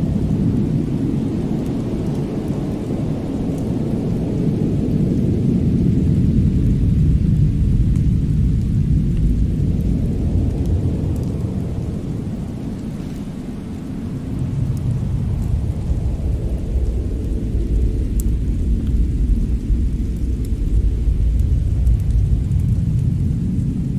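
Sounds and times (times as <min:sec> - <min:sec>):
faint fire crackles: 0:00.0 - 0:23.9
fire roaring: 0:00.0 - 0:23.9.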